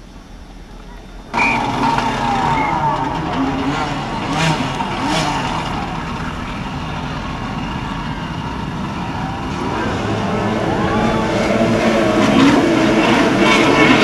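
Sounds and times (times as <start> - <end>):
jet ski engines revving: 0.3 - 14.0.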